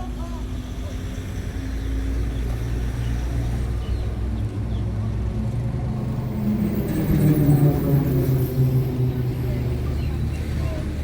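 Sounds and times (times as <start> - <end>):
motor vehicle running: 1.8 - 11.0.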